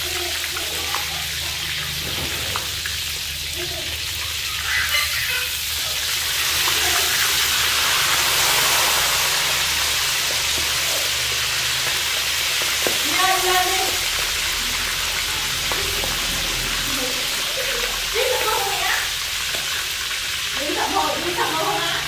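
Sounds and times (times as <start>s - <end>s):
frogs sizzling in hot oil: 0.0s - 22.0s.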